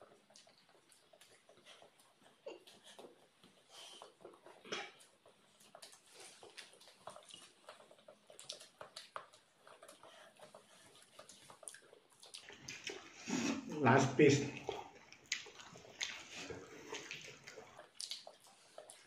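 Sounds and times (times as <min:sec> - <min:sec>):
faint chewing and mouth sounds: 0:00.0 - 0:19.0.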